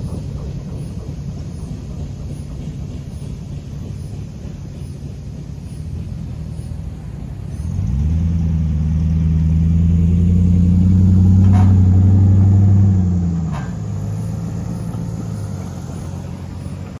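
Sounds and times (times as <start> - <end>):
traffic noise: 0.0 - 17.0
vehicle engine drone: 0.0 - 17.0.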